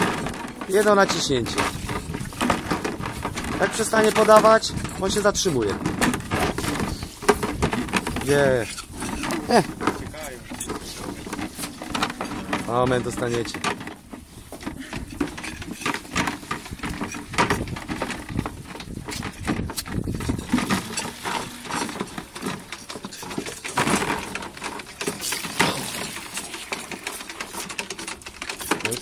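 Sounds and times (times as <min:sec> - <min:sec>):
calves knocking plastic buckets: 0:00.0 - 0:29.0.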